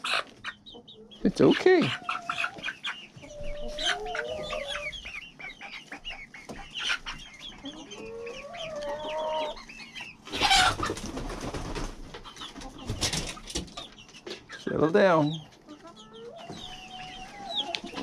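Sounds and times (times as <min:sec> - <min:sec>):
chicken complaining call: 0:00.0 - 0:11.1, 0:14.3 - 0:18.0
chicks peeping: 0:00.0 - 0:18.0.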